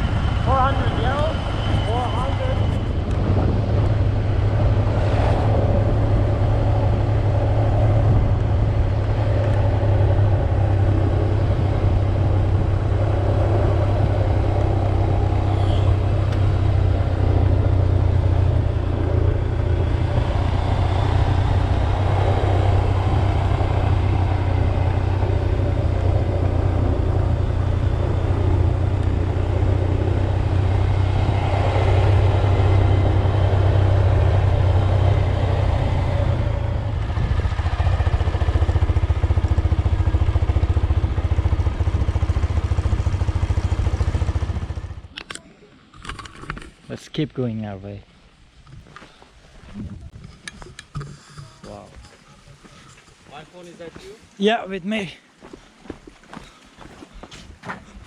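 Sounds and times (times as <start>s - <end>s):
motorcycle engine droning: 0.0s - 46.6s
road noise: 0.0s - 58.0s.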